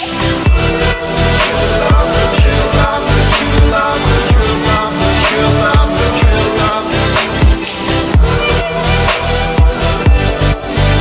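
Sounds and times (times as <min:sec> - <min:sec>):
electronic music with heavy bass drum: 0:00.0 - 0:11.0.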